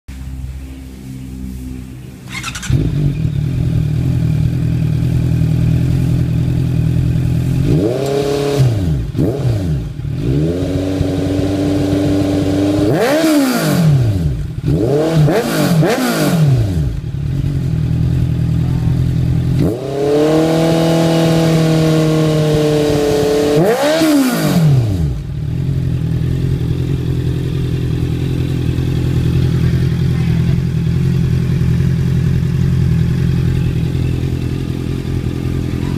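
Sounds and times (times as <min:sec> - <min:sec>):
motorcycle engine idling and revving: 0:00.1 - 0:35.9.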